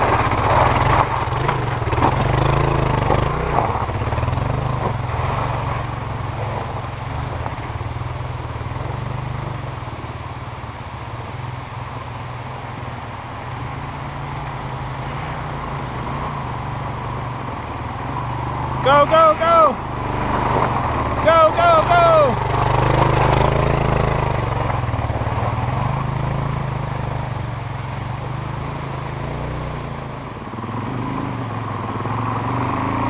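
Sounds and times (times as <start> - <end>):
low steady engine note: 0.0 - 32.9
motorcycle passing: 0.0 - 33.0.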